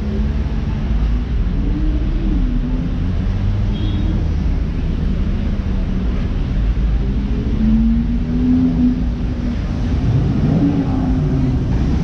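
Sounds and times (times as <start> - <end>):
cars passing by: 0.0 - 12.0.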